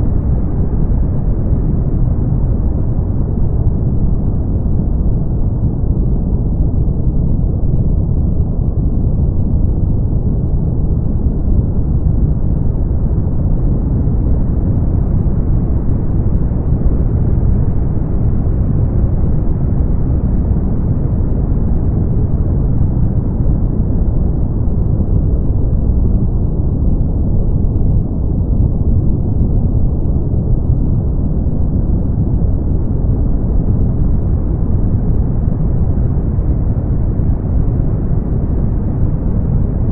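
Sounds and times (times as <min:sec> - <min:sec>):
brown noise: 0:00.0 - 0:39.9.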